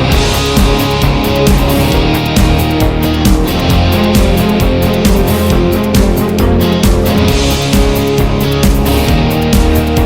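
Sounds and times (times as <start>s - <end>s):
electric guitar: 0.0s - 10.0s
rock music: 0.0s - 10.0s
steady drum beat: 0.0s - 10.0s.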